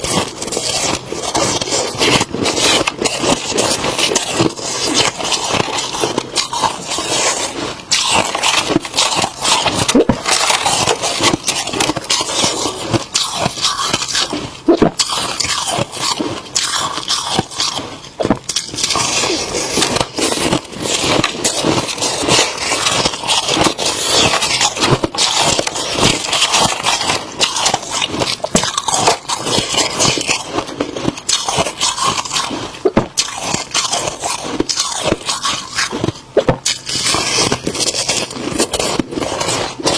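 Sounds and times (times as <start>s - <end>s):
freezer frost crunching: 0.0s - 39.9s.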